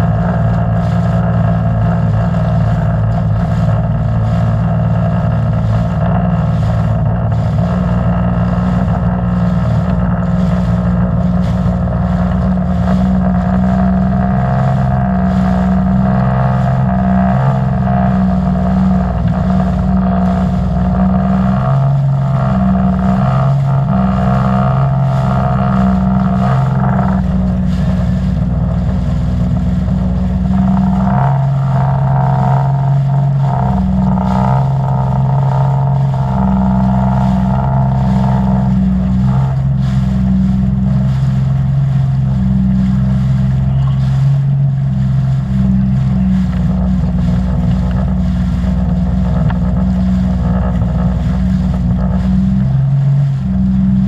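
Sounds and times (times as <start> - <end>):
personal watercraft engine: 0.0 - 54.0
water splashing: 0.0 - 54.0
wind noise: 0.0 - 54.0.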